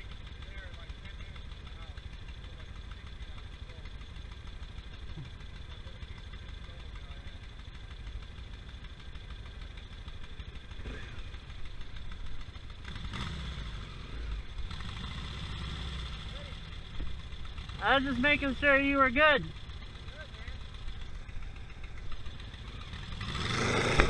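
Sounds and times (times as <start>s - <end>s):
dune buggy engine idling: 0.0s - 24.0s
motorcycle engine idling: 0.0s - 24.0s.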